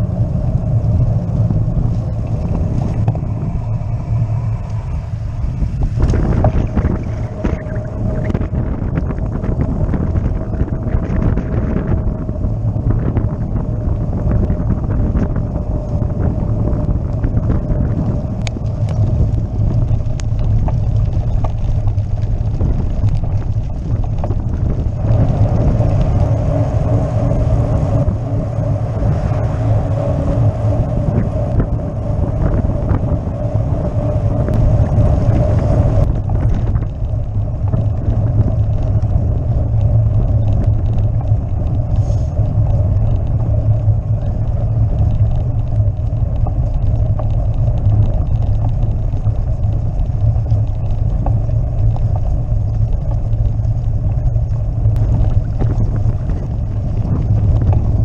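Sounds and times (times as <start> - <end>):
road rumble: 0.0 - 58.0
wind buffeting: 0.0 - 58.0.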